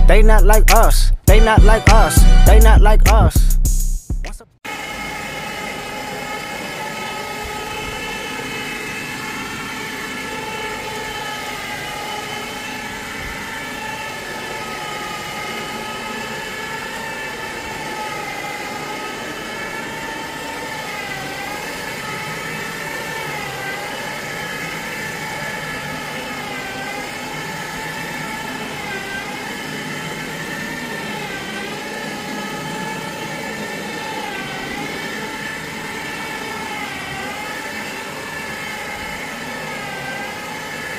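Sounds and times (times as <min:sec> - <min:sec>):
vacuum motor whining: 0:04.6 - 0:40.9.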